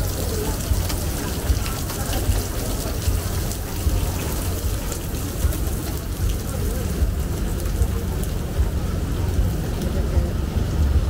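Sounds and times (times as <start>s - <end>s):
rain on an umbrella: 0.0s - 11.0s
low rumble: 0.1s - 11.0s.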